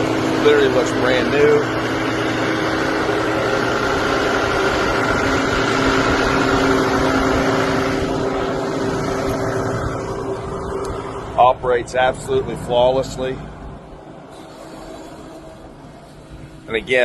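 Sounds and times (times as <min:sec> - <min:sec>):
diesel engine running steadily: 0:00.0 - 0:17.0
steady whine: 0:00.0 - 0:17.0.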